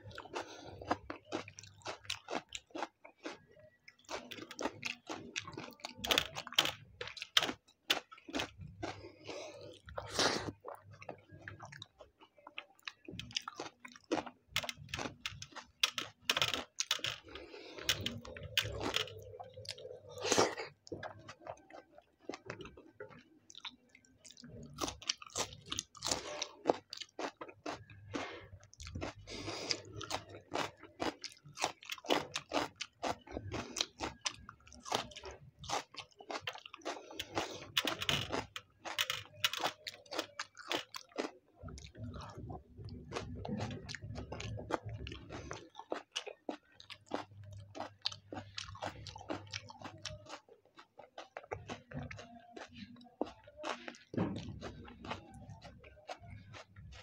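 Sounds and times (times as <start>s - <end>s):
close chewing: 0.0s - 57.0s.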